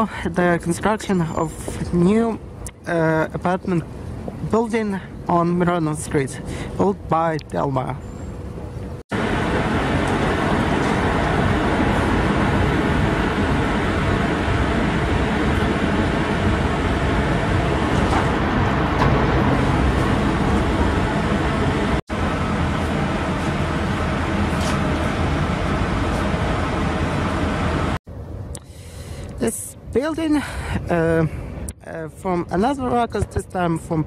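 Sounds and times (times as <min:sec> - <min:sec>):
road traffic rumble: 0:00.0 - 0:32.6.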